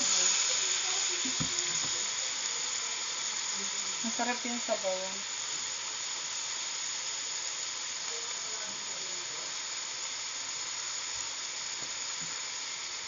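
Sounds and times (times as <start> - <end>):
meat sizzling in a wok: 0.0 - 13.0.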